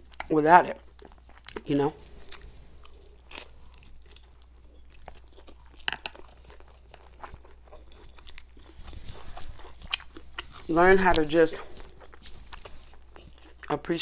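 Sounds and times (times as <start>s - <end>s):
person chewing: 0.0s - 13.8s.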